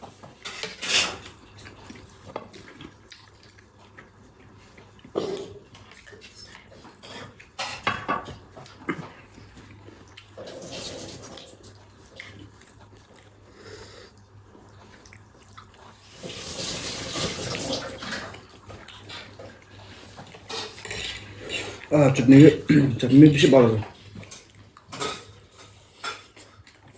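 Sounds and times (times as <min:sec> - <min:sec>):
slurping and chewing noodles: 0:00.0 - 0:07.7, 0:08.3 - 0:26.9.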